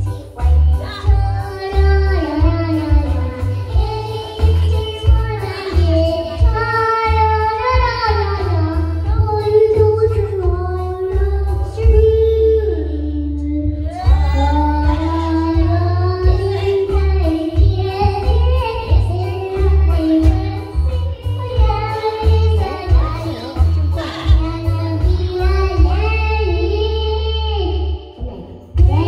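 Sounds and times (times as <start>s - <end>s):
backing track with pulsing bass: 0.0s - 29.0s
girl singing into a microphone: 0.0s - 29.0s.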